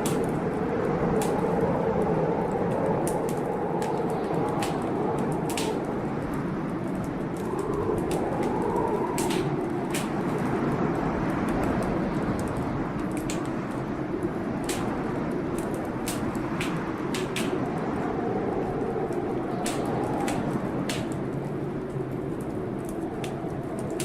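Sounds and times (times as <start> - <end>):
storm roaring: 0.0 - 24.0
wood fire crackling and popping: 0.0 - 24.0.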